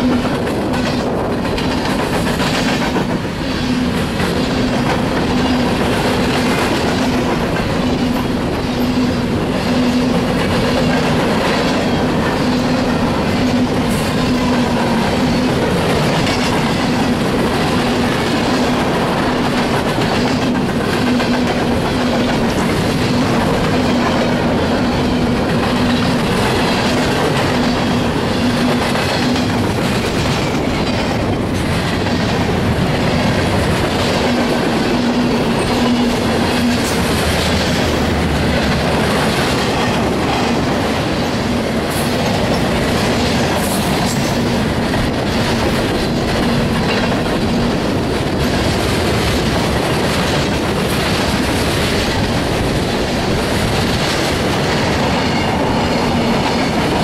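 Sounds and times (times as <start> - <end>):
train wheels rumbling on rail: 0.0 - 57.0
wheels clicking over rail joints: 0.0 - 57.0.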